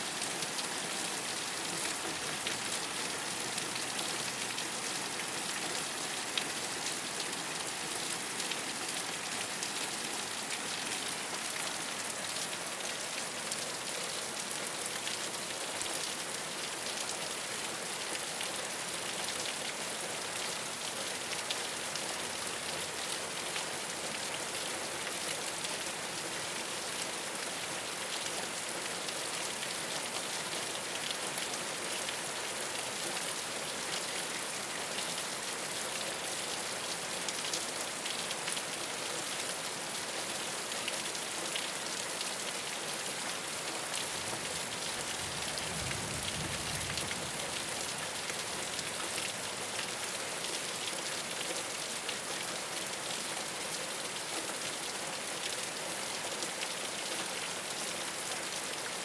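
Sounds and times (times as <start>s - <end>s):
rain on a rooftop: 0.0s - 59.0s.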